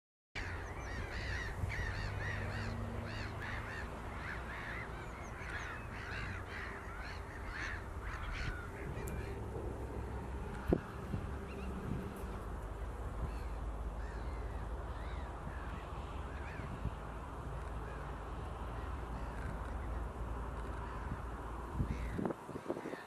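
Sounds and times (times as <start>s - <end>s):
low background rumble: 0.4s - 22.2s
gulls calling: 0.4s - 23.0s.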